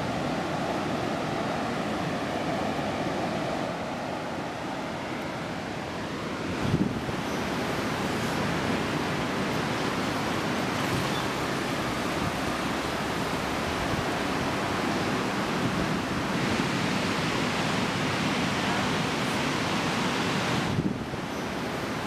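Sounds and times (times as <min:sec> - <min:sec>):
low wind rumble: 0:00.0 - 0:22.0
ocean surf on a beach: 0:00.0 - 0:22.0.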